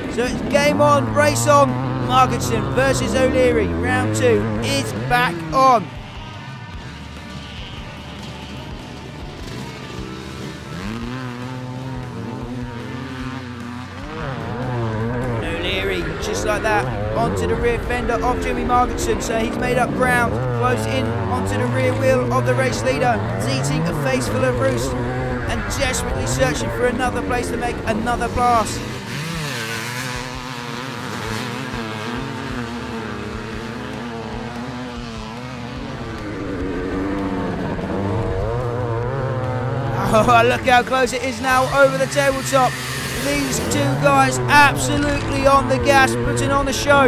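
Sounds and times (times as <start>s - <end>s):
motocross engines revving: 0.0s - 47.0s.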